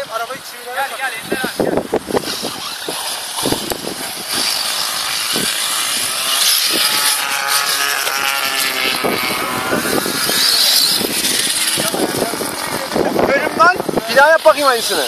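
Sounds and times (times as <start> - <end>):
electric motor whining: 0.6 - 15.0.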